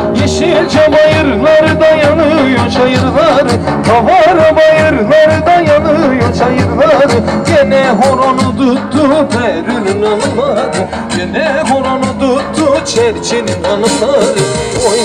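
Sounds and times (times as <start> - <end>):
folk dance music: 0.0 - 15.0.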